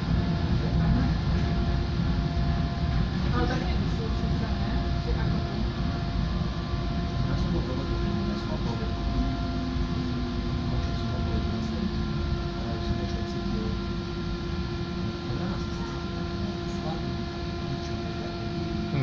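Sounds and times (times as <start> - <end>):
lower whining tone: 0.0 - 19.0
steady whining tones: 0.0 - 19.0.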